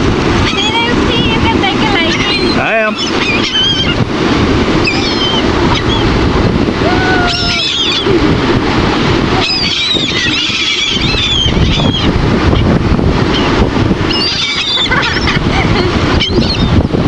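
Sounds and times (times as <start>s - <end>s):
surf: 0.0s - 17.0s
wind on microphone: 0.0s - 17.0s
seagulls calling: 0.2s - 17.0s.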